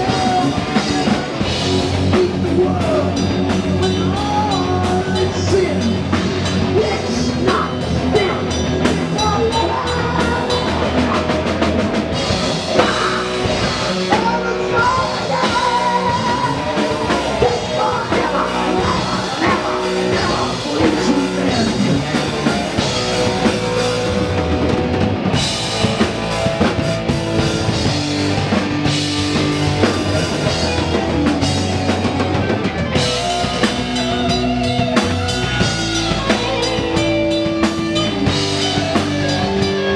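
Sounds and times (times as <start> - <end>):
distorted electric guitar lead: 0.0 - 39.9
heavy metal band playing: 0.0 - 39.9.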